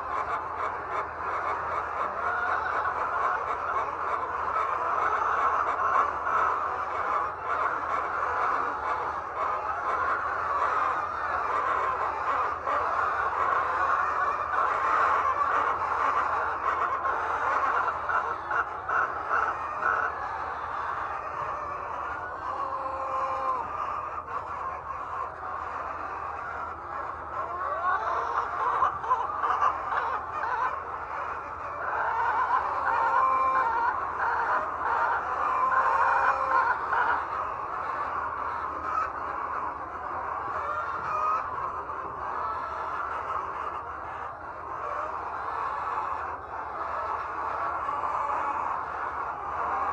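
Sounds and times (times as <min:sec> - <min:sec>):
flock of hens clucking: 0:00.0 - 0:49.9.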